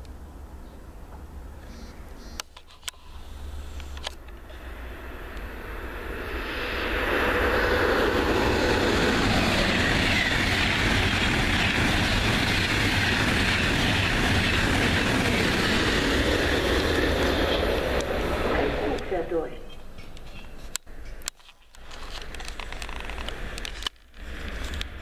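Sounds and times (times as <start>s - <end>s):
high-speed train passing: 0.0s - 25.0s.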